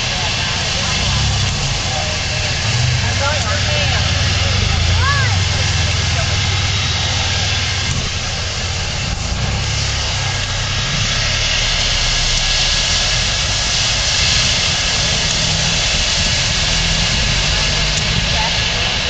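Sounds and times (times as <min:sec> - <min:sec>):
low hum: 0:00.0 - 0:18.5
steam hissing: 0:00.0 - 0:19.0.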